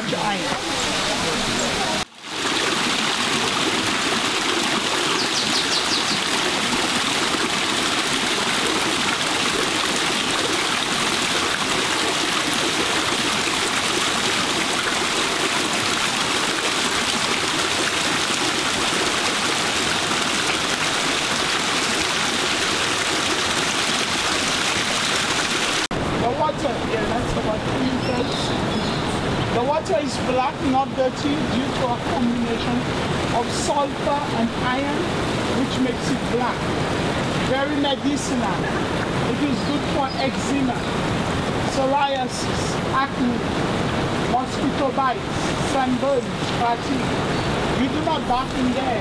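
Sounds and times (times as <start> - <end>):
stream water over stones: 0.0 - 49.0.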